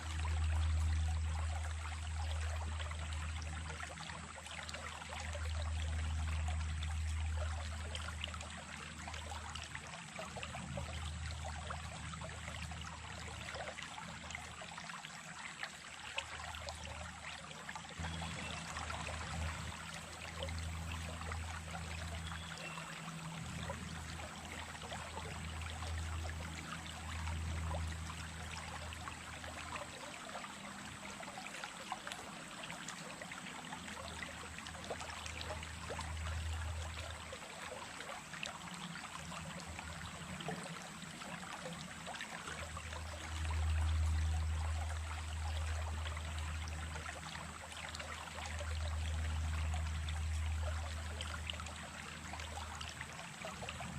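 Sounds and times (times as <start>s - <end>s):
creek splashing and trickling: 0.0s - 53.9s.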